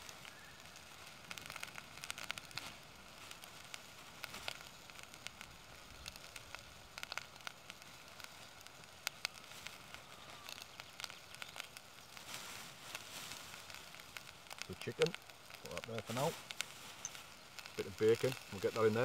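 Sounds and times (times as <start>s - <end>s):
crackles and pops from frying: 0.0s - 19.0s
plastic bag crinkling: 0.0s - 19.0s
vegetables sizzling in pot: 0.0s - 19.0s.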